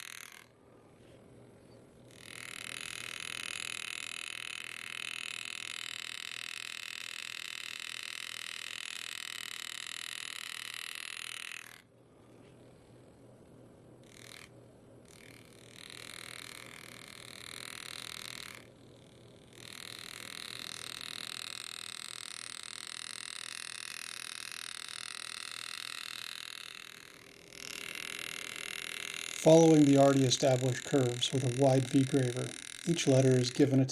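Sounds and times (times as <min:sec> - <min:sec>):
engraving handpiece buzzing: 0:00.0 - 0:00.6, 0:01.2 - 0:13.3, 0:14.0 - 0:33.9.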